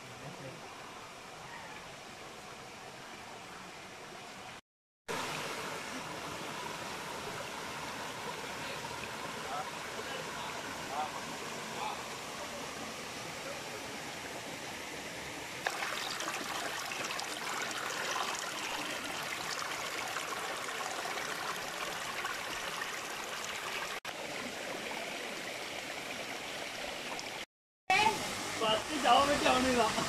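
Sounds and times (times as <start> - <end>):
stream trickling over rocks: 0.2 - 30.0.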